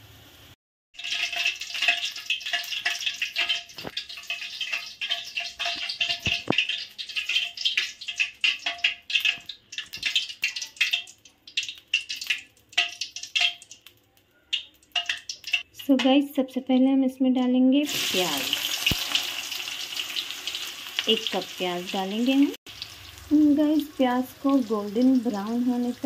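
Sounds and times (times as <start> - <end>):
hot oil crackling and spitting: 0.0 - 16.0, 17.8 - 26.0.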